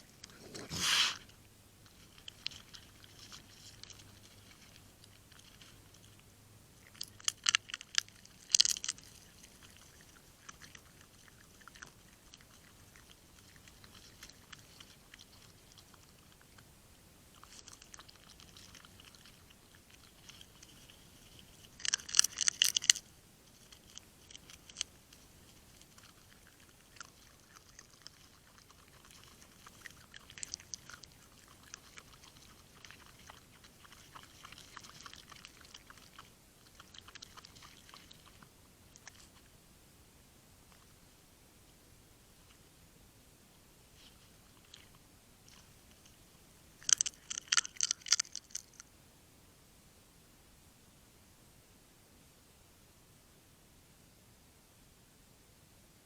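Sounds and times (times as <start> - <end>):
small animal crunching food: 0.0 - 39.6, 40.5 - 42.9, 43.5 - 48.9.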